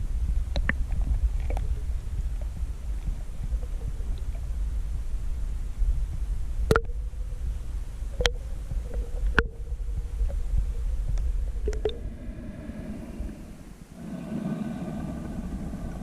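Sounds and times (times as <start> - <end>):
underwater low rumble: 0.0 - 16.0.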